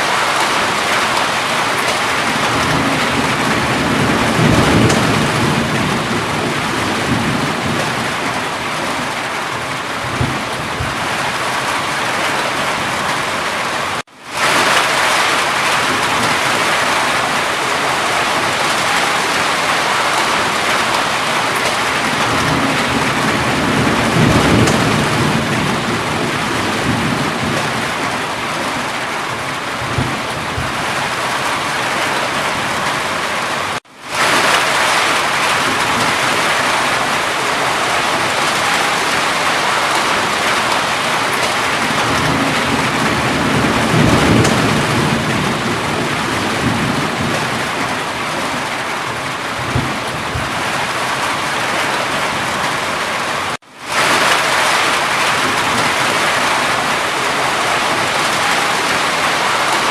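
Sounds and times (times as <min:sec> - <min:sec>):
thunder rumbling: 0:00.0 - 0:53.2, 0:53.9 - 0:59.9
heavy rain hissing: 0:00.0 - 0:59.9.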